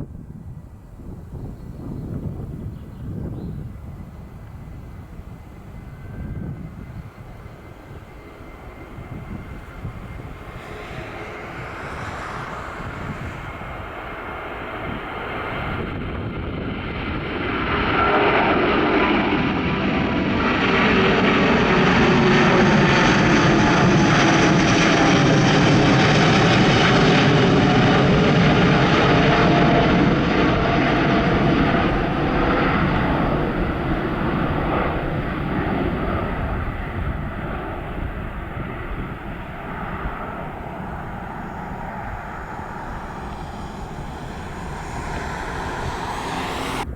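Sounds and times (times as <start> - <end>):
airliner engine passing: 0.0 - 46.9.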